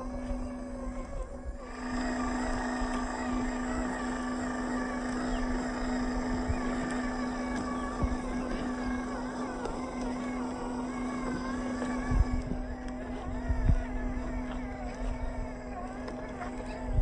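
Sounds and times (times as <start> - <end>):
small electric motor whining: 0.0 - 17.0.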